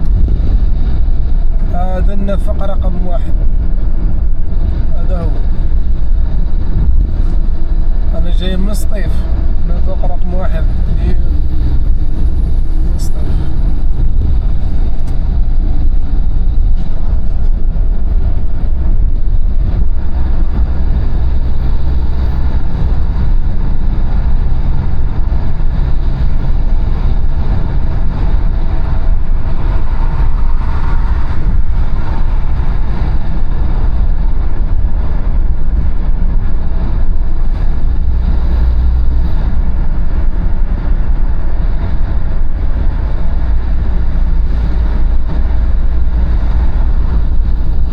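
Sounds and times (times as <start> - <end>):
car engine and tyre rumble: 0.0 - 47.9.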